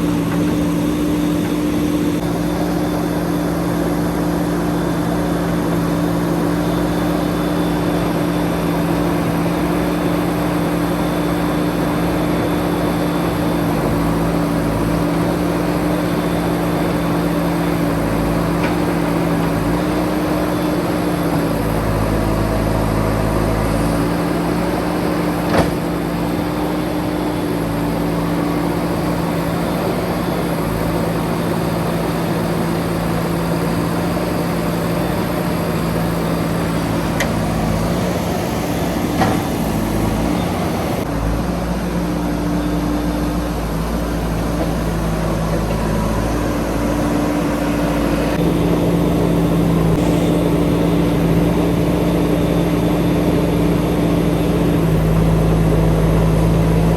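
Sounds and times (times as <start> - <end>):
diesel engine rumbling: 0.0 - 56.9.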